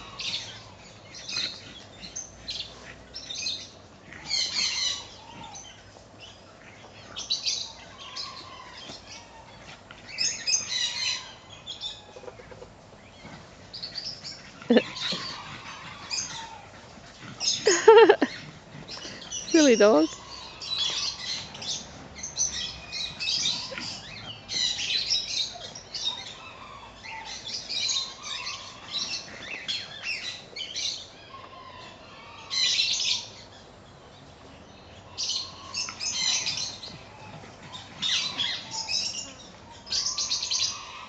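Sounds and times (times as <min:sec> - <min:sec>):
birds chirping and squawking: 0:00.0 - 0:41.0.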